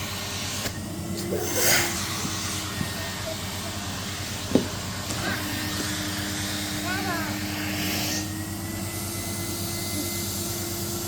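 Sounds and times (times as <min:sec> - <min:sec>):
vacuum cleaner motor: 0:00.0 - 0:11.0.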